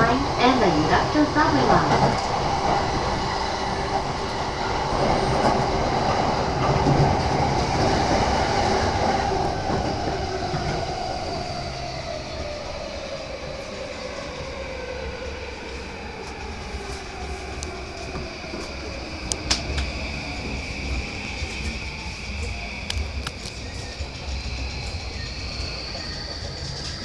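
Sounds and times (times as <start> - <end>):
train motor whine: 0.0 - 27.0
train running on rails: 0.0 - 27.0.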